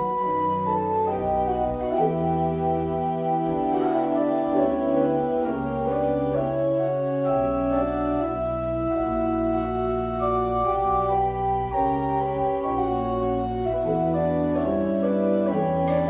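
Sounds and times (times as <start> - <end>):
pipe organ playing chords: 0.0 - 16.0.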